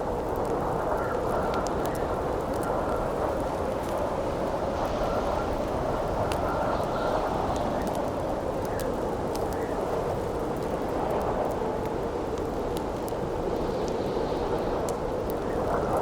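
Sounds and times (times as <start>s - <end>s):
campfire crackling: 0.0s - 16.0s
howling wind: 0.0s - 16.0s.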